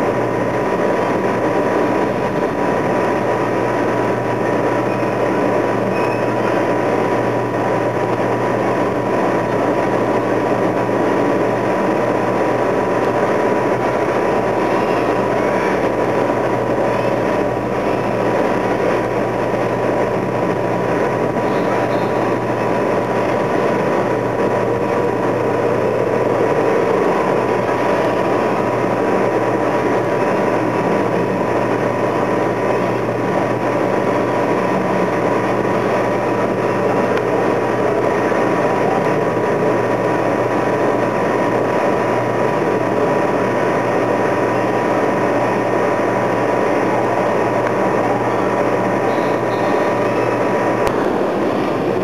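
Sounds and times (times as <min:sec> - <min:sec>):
thin constant whine: 0:00.0 - 0:52.0
vehicle engine and traffic noise: 0:00.0 - 0:52.0.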